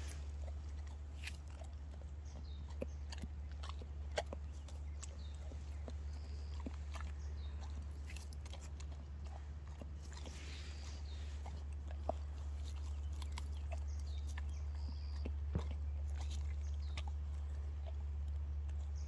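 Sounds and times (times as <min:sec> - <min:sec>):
dog chewing grass: 0:00.0 - 0:19.0.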